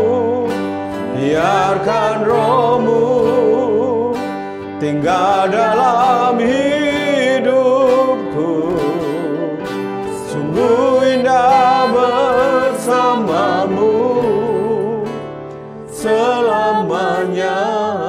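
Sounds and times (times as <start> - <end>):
man and woman singing: 0.0 - 15.3, 15.9 - 18.0
instrumental accompaniment: 0.0 - 18.0.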